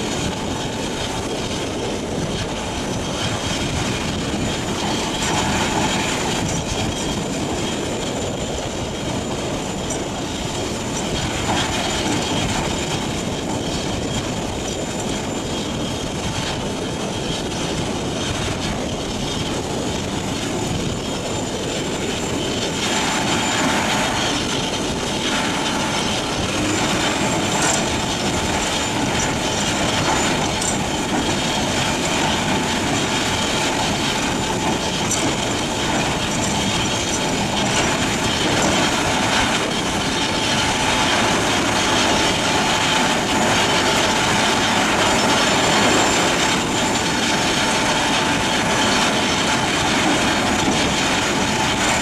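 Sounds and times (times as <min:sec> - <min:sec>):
steady machine whine: 0:00.0 - 0:52.0.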